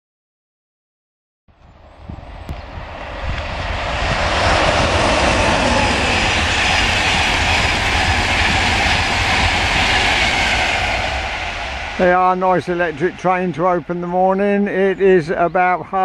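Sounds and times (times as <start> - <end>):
train passing at speed: 1.5 - 15.3.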